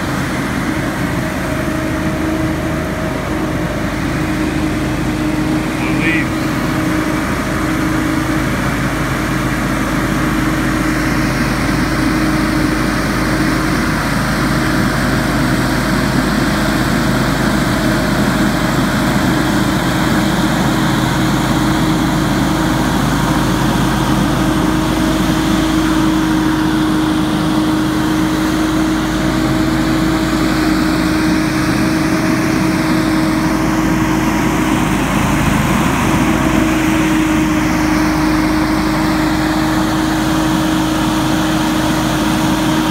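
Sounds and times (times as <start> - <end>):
leaf blower droning: 0.0 - 42.9.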